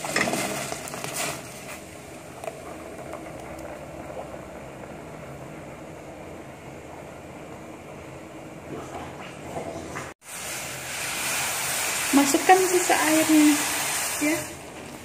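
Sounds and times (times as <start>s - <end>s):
pot bubbling with low hiss: 0.0s - 15.0s.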